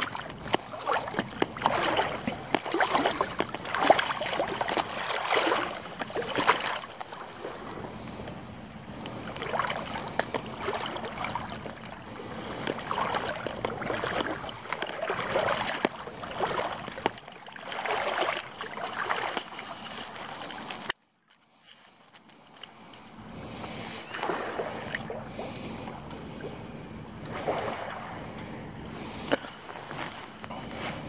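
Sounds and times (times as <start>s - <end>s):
legs wading through water: 0.0s - 20.9s, 21.8s - 31.0s.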